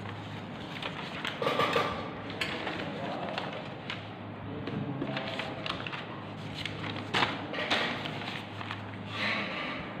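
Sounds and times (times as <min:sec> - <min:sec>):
paper rustling: 0:00.0 - 0:09.2.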